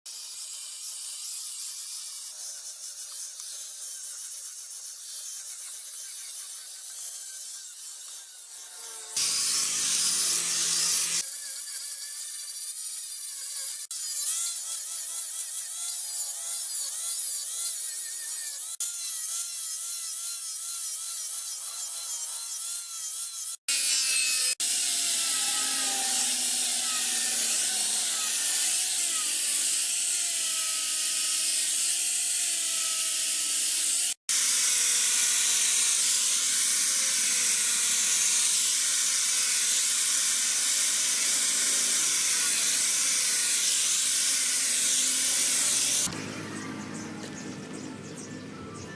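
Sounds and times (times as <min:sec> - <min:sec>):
sword blade rasping on abrasive: 0:00.2 - 0:12.4, 0:13.4 - 0:46.1.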